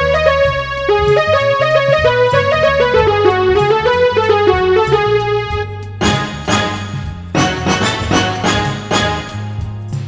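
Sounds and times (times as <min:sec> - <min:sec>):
quick melody over bass notes: 0:00.0 - 0:10.0.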